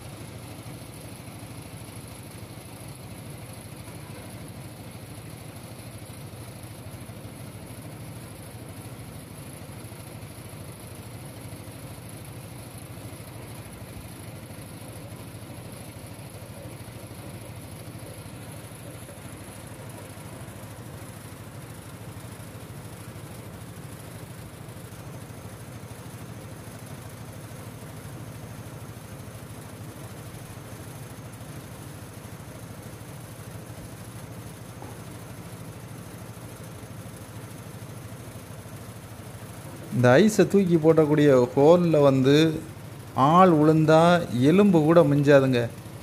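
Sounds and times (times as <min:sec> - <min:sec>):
ice machine droning: 0:00.0 - 0:46.0.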